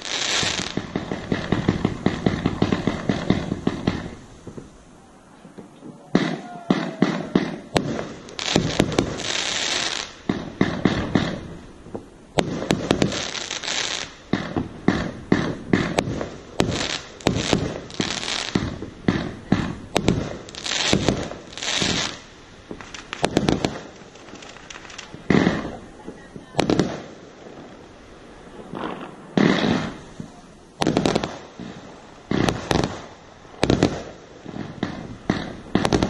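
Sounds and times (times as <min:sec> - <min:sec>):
fireworks bangs: 0:00.0 - 0:36.0
fireworks hissing: 0:00.0 - 0:36.0.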